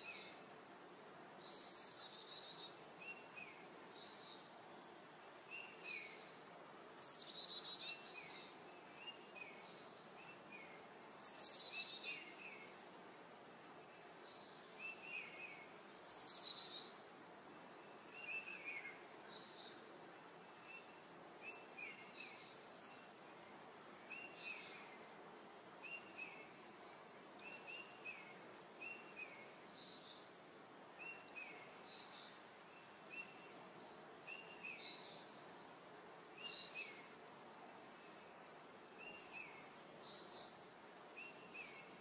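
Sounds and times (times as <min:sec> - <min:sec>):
faint birdsong chirps: 0:00.0 - 0:42.0
outdoor background hiss: 0:00.0 - 0:42.0.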